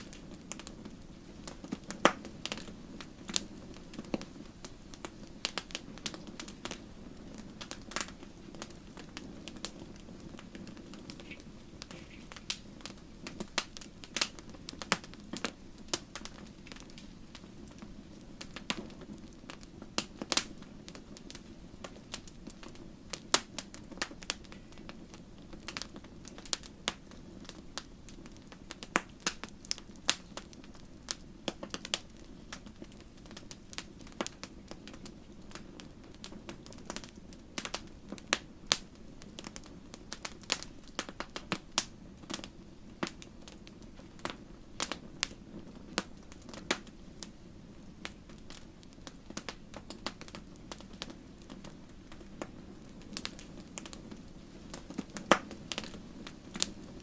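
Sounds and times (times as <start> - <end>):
campfire crackling: 0.0 - 57.0
low rumble of flames: 0.0 - 57.0.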